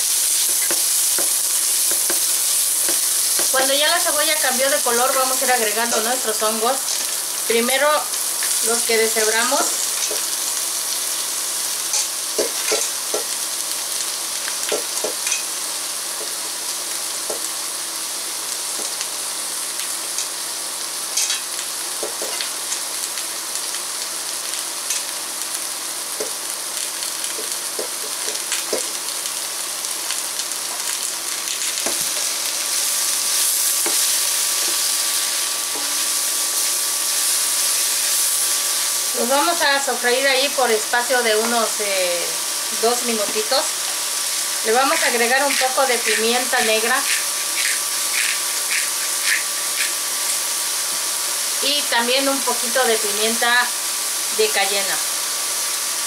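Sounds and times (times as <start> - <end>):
mushrooms sizzling in oil: 0.0 - 56.0.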